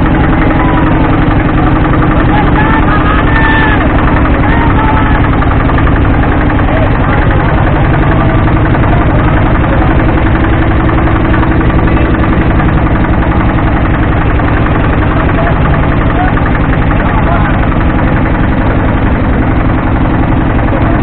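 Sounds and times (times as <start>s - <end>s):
motorboat engine throbbing: 0.0s - 21.0s.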